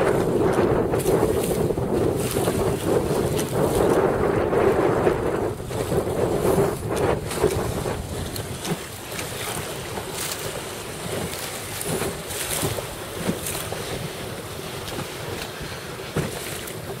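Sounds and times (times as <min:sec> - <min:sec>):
water splashing: 0:00.0 - 0:17.0
wind buffeting microphone: 0:00.0 - 0:17.0.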